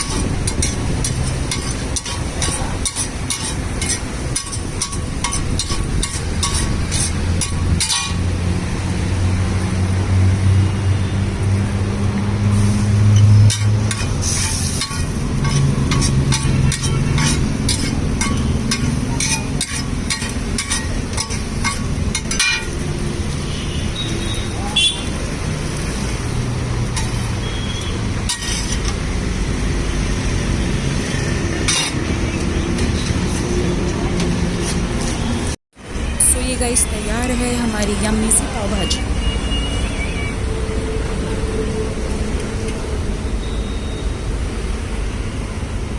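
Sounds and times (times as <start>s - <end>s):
engine humming: 0.0s - 43.5s
road traffic noise: 0.0s - 45.9s.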